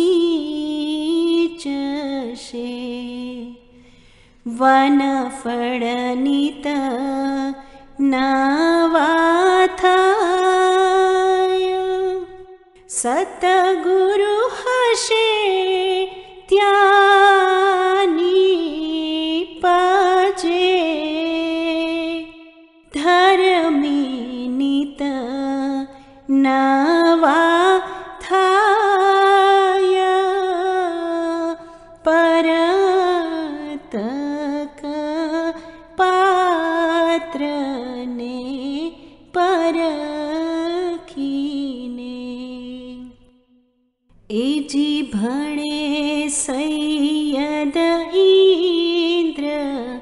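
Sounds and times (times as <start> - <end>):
woman singing a devotional hymn: 0.0 - 3.6, 4.4 - 43.2, 44.3 - 50.0.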